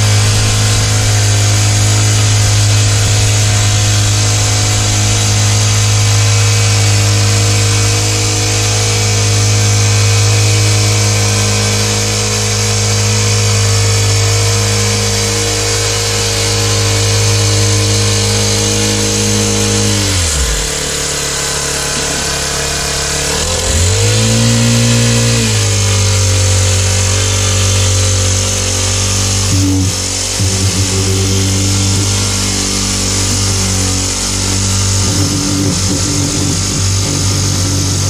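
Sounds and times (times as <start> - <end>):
power tool motor running: 0.0 - 38.0.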